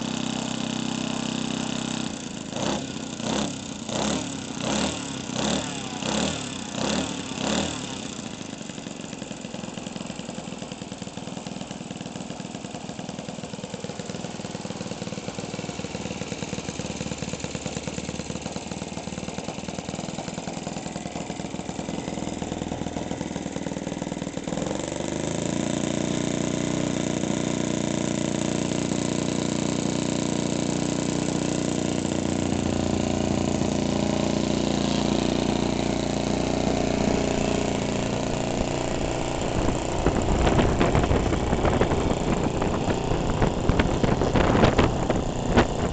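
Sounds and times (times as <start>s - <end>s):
model airplane engine running: 0.0s - 45.9s.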